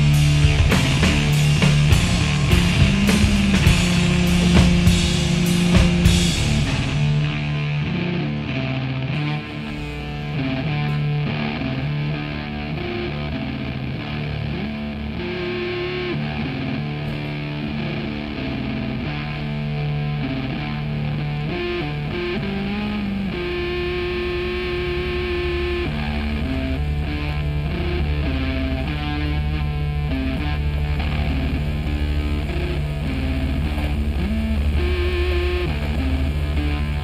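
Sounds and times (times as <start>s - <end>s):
rock music with distorted guitar: 0.0s - 37.0s.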